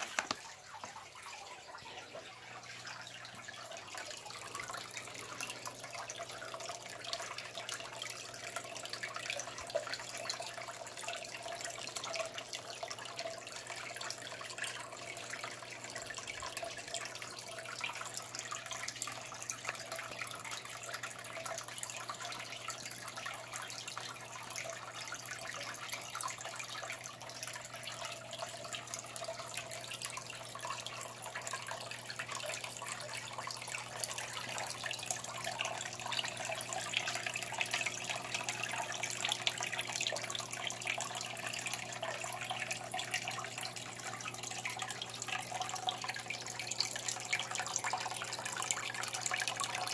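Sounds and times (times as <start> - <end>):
aquarium water trickling and bubbling: 0.0 - 49.9.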